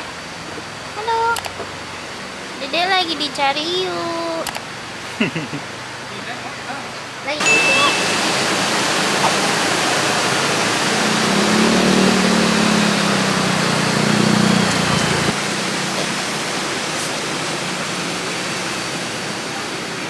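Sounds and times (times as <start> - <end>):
waterfall and rapids rushing: 0.0 - 20.0.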